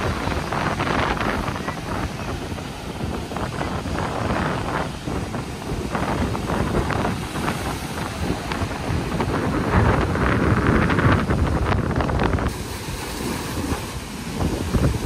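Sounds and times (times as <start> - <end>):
sea surf breaking: 0.0 - 15.0
wind buffeting microphone: 0.0 - 15.0.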